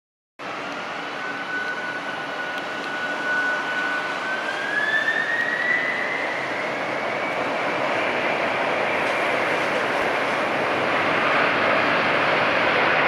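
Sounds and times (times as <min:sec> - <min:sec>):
jet engines roaring: 0:00.4 - 0:13.0
turbofan whine: 0:00.4 - 0:13.0.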